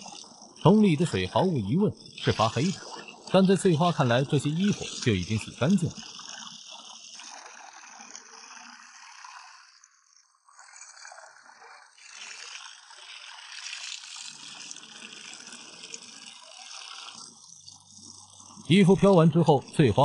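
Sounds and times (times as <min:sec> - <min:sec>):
water running from tap: 0:00.0 - 0:20.0.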